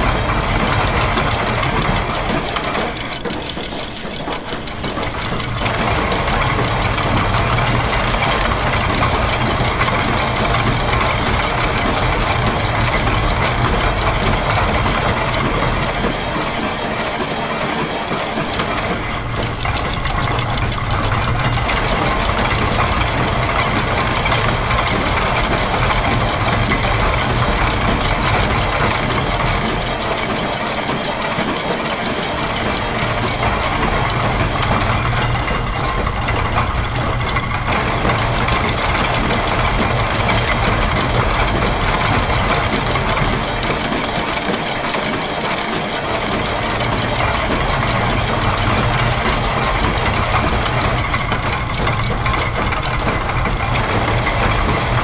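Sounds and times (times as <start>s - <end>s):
looping machine sounds: 0.0s - 55.0s.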